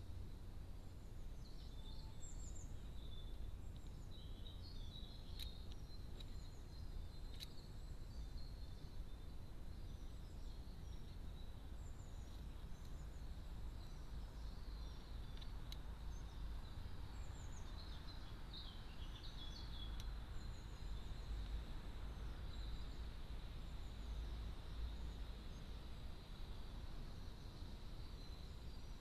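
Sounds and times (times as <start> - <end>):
low rumble and hiss: 0.0 - 29.0
small birds chirping: 0.8 - 29.0.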